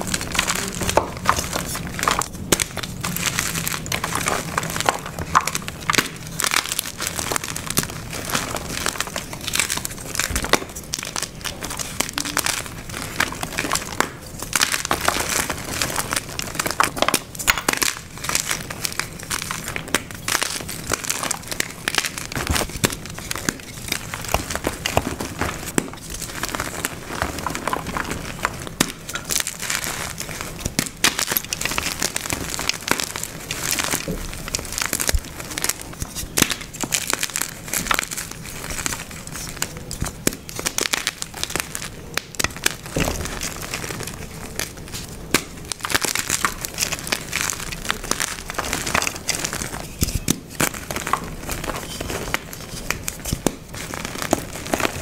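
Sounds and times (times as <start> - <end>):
chalk being crushed: 0.0 - 55.0.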